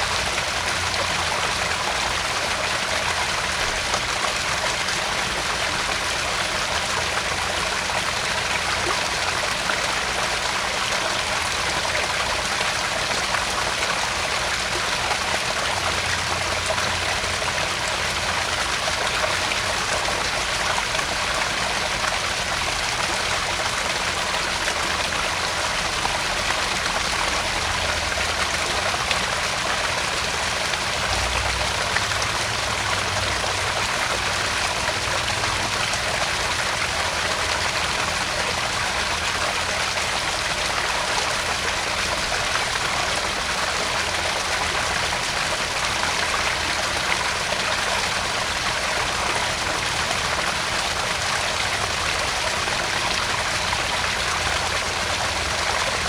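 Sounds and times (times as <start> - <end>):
pond waterfall splashing: 0.0 - 56.0.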